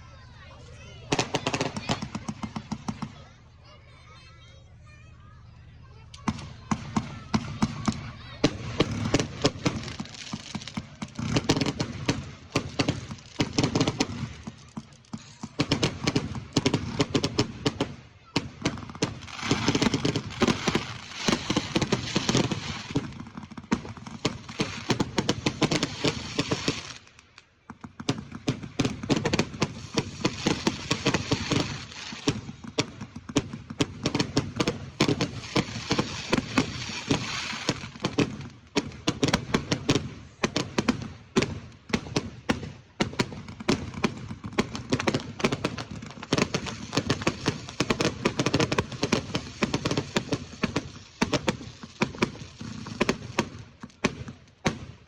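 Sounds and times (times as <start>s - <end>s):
fireworks crackling and banging: 0.0s - 55.0s.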